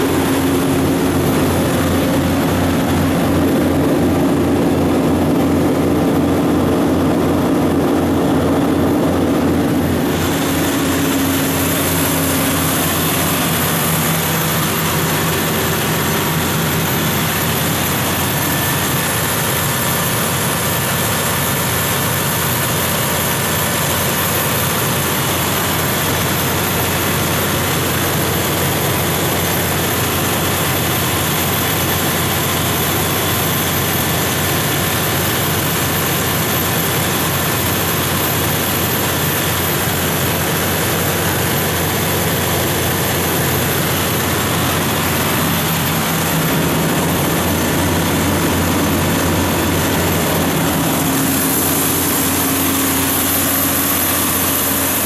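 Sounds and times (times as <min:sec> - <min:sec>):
diesel generator droning: 0:00.0 - 0:55.0.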